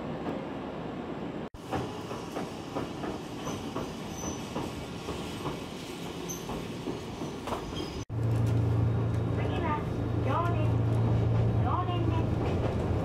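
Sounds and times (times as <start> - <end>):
train rumble: 1.6 - 13.0.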